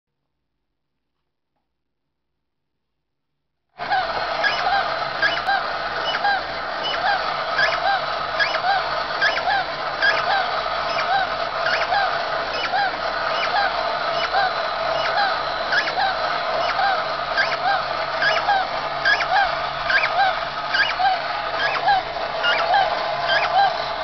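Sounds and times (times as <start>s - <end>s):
low motor hum: 3.8s - 24.0s
toy repeating piping note: 4.0s - 24.0s.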